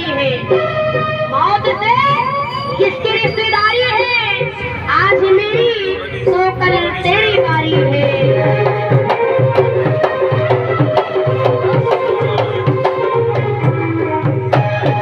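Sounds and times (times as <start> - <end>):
dholak drum rhythm: 0.0 - 15.0
held melody notes: 0.0 - 15.0.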